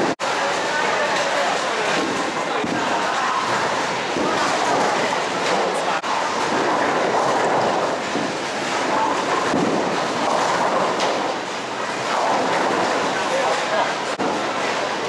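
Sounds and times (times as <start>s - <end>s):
bowling alley din: 0.0s - 15.0s
bowling ball rolling on wooden lane: 1.8s - 14.9s.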